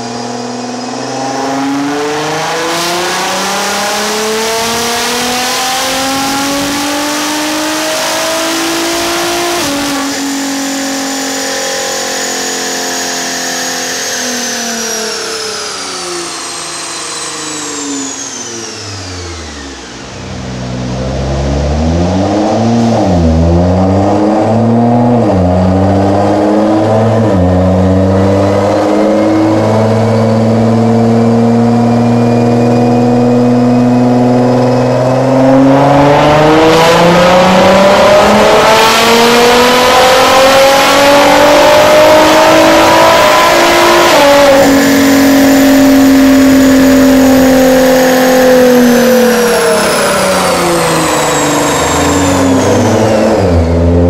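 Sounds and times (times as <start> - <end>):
car engine revving on dyno: 0.0 - 54.0.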